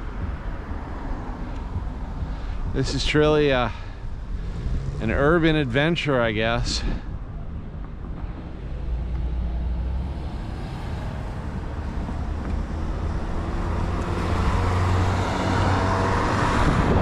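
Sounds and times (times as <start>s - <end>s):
vehicle approaching: 0.0s - 17.0s.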